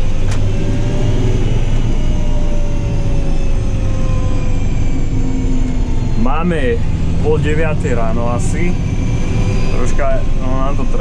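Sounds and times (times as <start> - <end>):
tractor diesel engine drone: 0.0 - 11.0.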